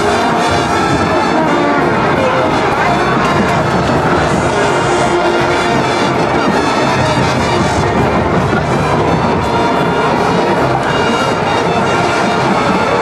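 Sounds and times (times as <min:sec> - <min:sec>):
marching band with brass: 0:00.0 - 0:13.0.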